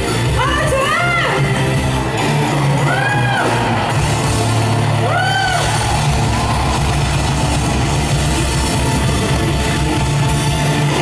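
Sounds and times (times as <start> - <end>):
live pop-rock band playing: 0.0 - 11.0.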